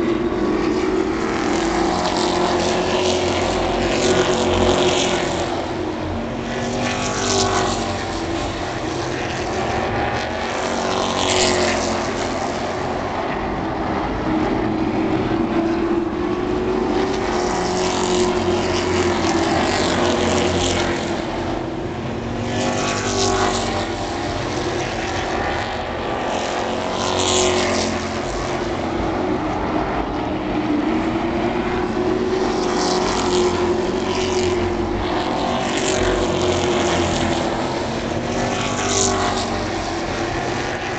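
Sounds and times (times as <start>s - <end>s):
racing truck engines: 0.0s - 40.9s
trucks passing close: 0.0s - 40.9s.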